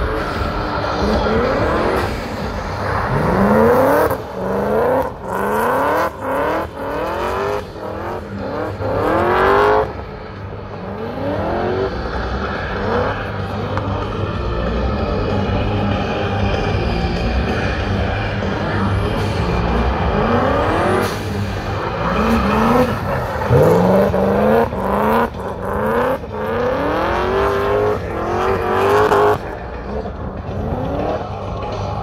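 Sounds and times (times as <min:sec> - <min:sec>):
car engine revving hard: 0:00.0 - 0:10.1, 0:10.7 - 0:16.2, 0:17.4 - 0:31.4.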